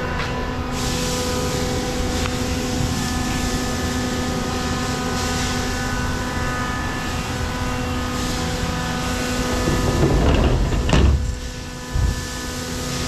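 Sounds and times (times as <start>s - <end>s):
lathe machine hum: 0.0s - 13.0s.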